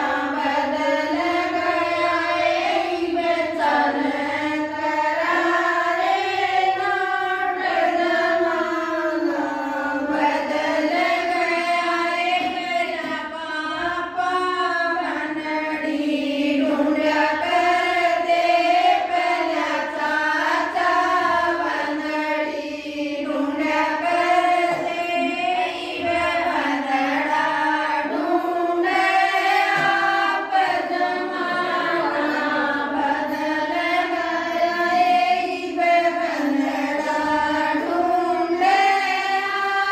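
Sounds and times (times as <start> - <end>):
women singing devotional song: 0.0 - 39.9.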